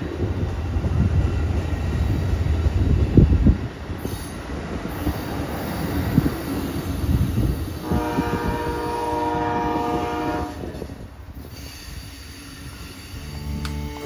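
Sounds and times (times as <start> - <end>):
train cars rumbling on rails: 0.0 - 14.0.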